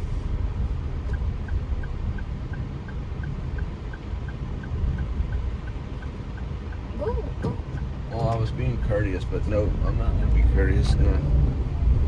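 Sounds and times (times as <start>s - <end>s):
engine and road rumble: 0.0s - 12.0s
turn signal ticking: 0.0s - 12.0s.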